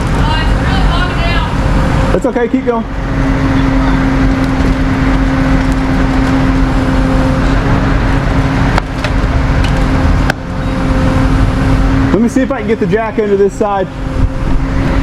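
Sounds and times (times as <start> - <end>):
rushing noise: 0.0 - 15.0
vehicle engine droning: 0.0 - 15.0.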